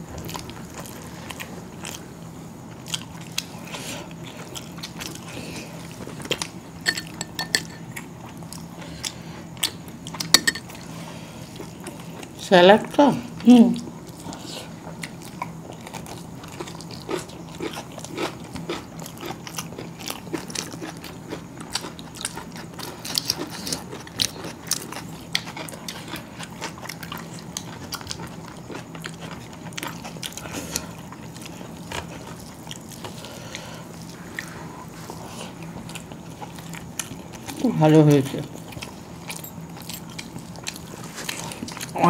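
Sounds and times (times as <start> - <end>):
people chewing food: 0.0 - 42.0
steady low hum: 0.0 - 42.0.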